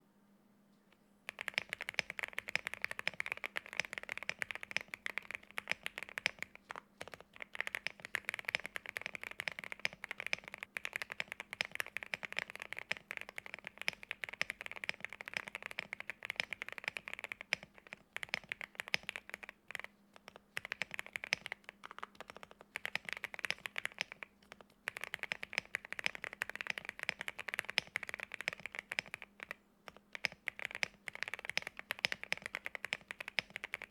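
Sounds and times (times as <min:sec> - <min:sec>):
mechanical keyboard typing: 0:01.3 - 0:33.9.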